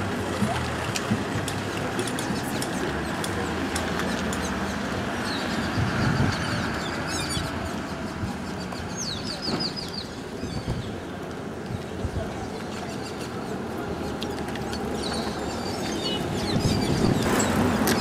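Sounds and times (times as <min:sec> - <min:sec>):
crowd of walkers: 0:00.0 - 0:18.0.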